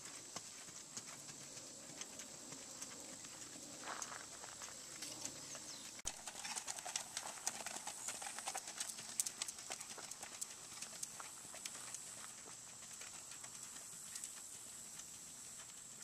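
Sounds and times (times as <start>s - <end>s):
horse hoofbeats on dirt: 0.0s - 16.0s.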